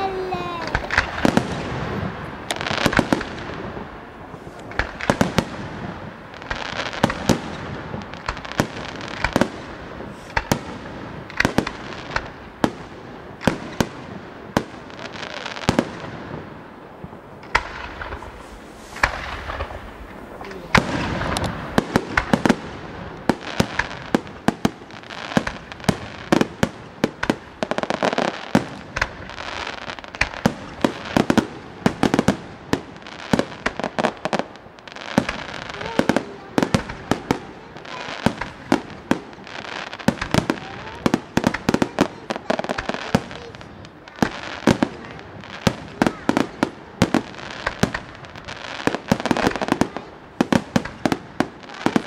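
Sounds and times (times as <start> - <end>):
firework shells bursting: 0.0 - 16.5, 17.1 - 52.0
firework crackle: 0.0 - 52.0.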